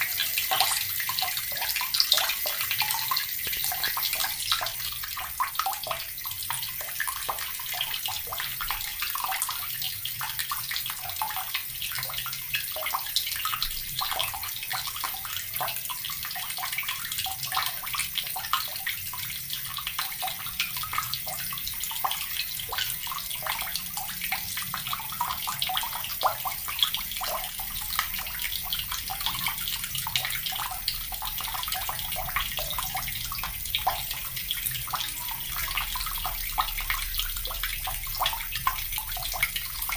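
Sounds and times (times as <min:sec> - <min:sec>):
tap water pouring into bucket: 0:00.0 - 0:39.9.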